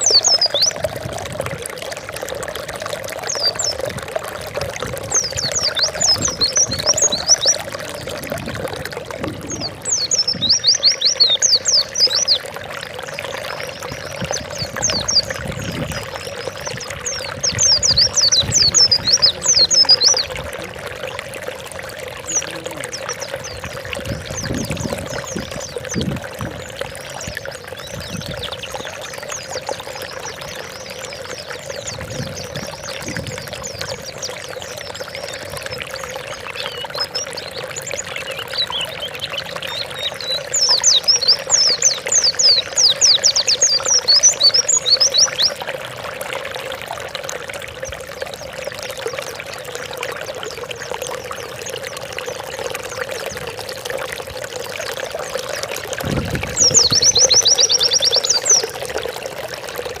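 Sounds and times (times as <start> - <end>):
running water: 0.0 - 60.0.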